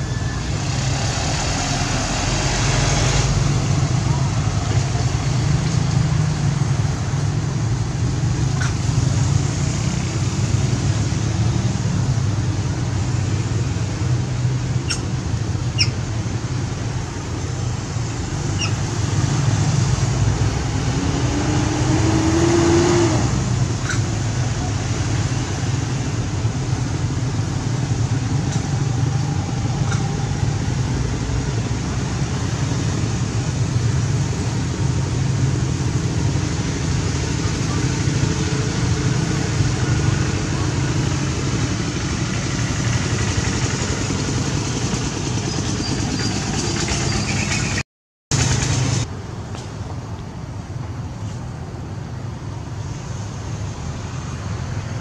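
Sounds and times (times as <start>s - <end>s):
distant road traffic rumble: 0.0s - 55.0s.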